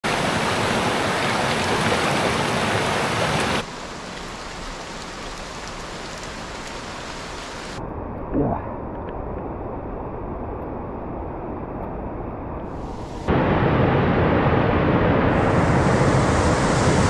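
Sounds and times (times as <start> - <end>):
water rushing: 0.0 - 9.5, 12.7 - 17.0.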